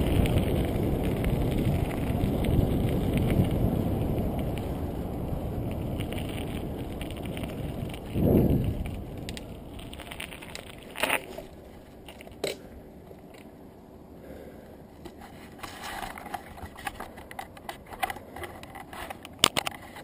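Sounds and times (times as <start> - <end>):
bicycle knocks and rattles: 0.0 - 13.6, 15.0 - 20.0
wind and tyres rumbling: 0.0 - 20.0.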